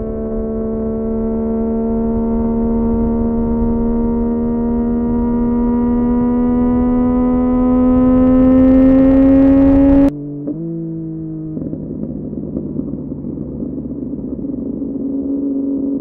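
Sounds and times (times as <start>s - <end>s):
motorcycle engine at high revs: 0.0s - 16.0s
wind and road rumble: 0.0s - 16.0s.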